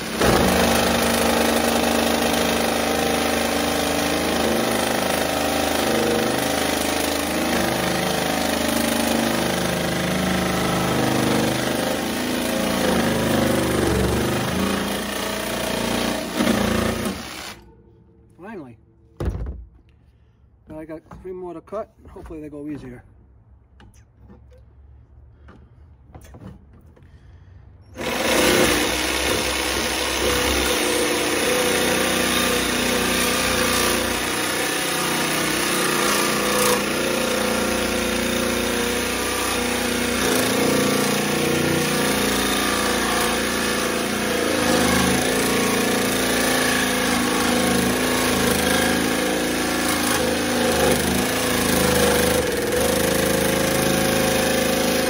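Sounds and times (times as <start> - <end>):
jigsaw sawing through metal wire: 0.0 - 17.6, 28.0 - 55.0.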